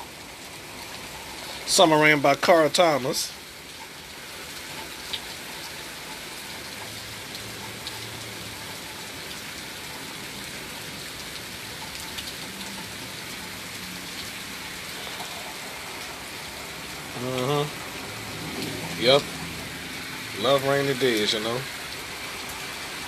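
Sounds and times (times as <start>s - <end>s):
rain falling on surfaces: 0.0s - 23.0s
raindrop ticks: 0.8s - 22.7s.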